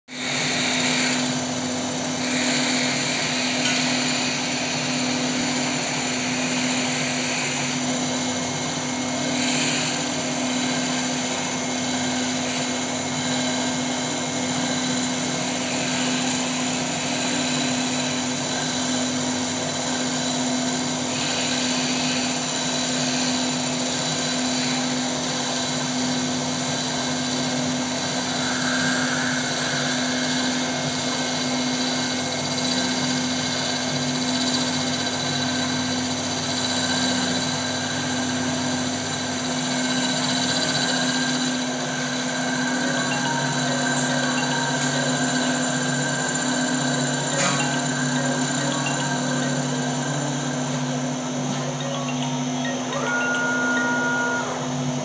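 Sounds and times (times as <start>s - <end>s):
turning tool cutting wood: 0.1s - 25.8s, 26.5s - 50.9s
wood lathe turning: 0.1s - 51.2s
constant machine hum: 0.1s - 55.0s.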